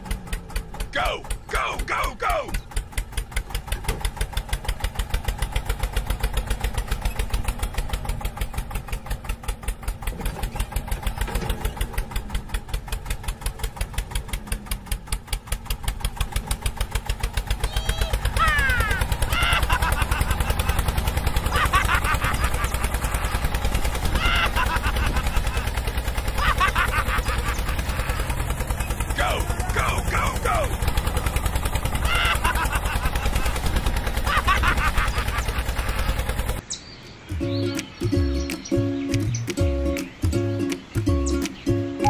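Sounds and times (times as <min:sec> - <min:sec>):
small engine putter: 0:00.0 - 0:36.6.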